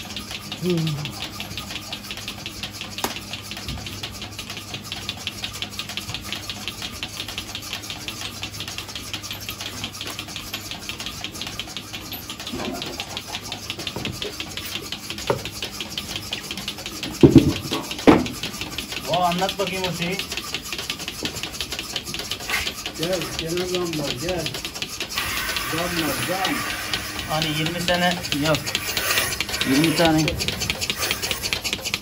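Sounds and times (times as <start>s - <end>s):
fast even ticking: 0.0s - 32.0s
machine motor running: 0.0s - 32.0s.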